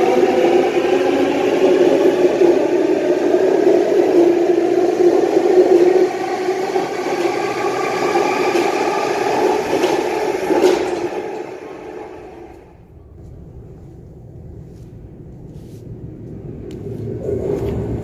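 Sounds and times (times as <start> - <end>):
electric train whine: 0.0 - 15.3.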